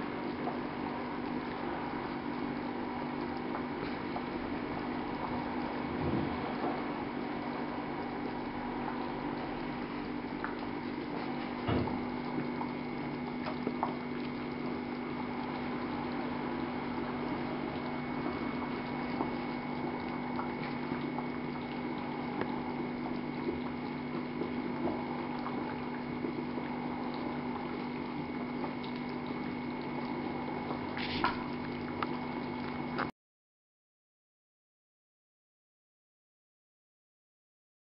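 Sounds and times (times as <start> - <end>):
steady low hum: 0.0 - 33.1
stew bubbling in pot: 0.0 - 33.1.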